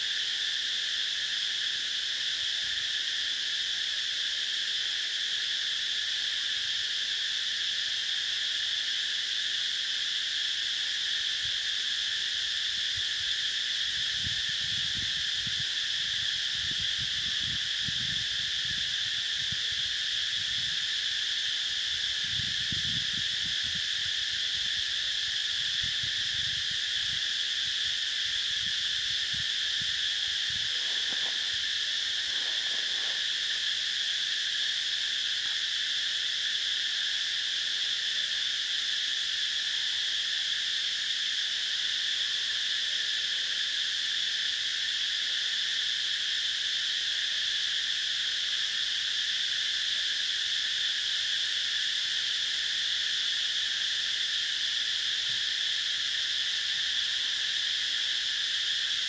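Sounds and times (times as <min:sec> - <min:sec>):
shrill insect chorus: 0:00.0 - 0:59.0.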